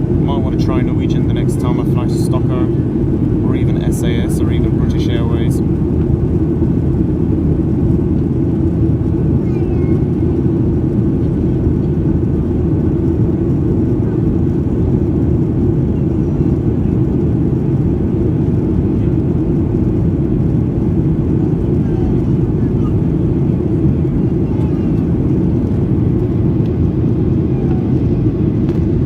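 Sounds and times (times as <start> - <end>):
jet engines at climb thrust: 0.0 - 29.0.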